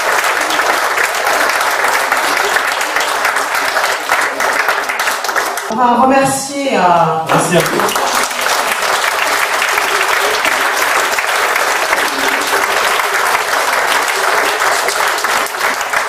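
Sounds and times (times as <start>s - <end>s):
audience applauding: 0.0s - 5.7s, 7.3s - 16.0s.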